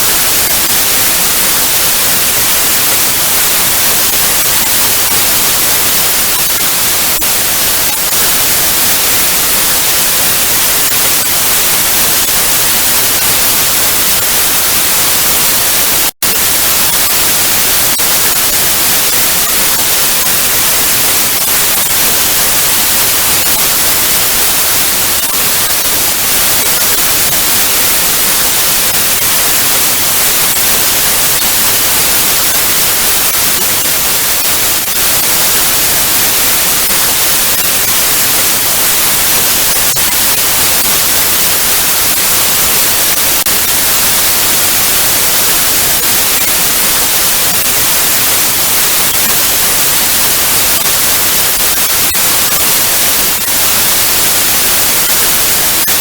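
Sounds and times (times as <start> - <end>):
television static hiss: 0.0 - 56.0.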